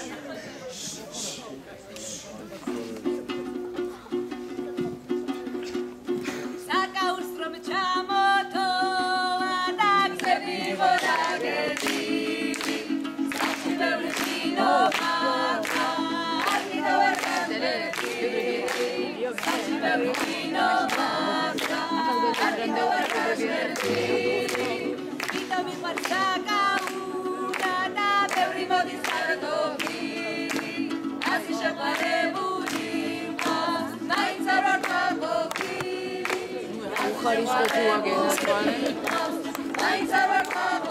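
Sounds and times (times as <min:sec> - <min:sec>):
strummed lute: 0:02.0 - 0:40.9
group of young voices singing: 0:07.8 - 0:40.9.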